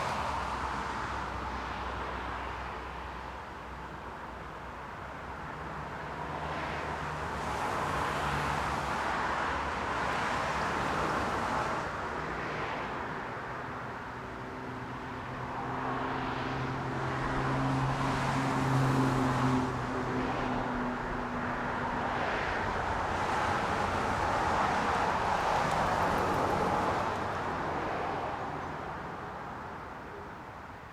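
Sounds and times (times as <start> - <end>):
cars passing: 0.0 - 30.9.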